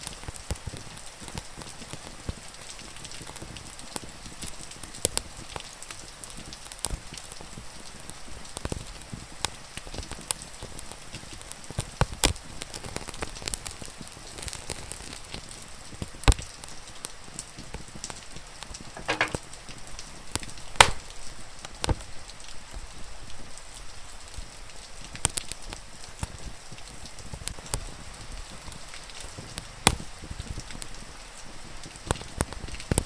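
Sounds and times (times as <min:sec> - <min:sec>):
wood fire crackling and popping: 0:00.0 - 0:23.0, 0:23.8 - 0:33.0
rain hissing: 0:00.0 - 0:33.0.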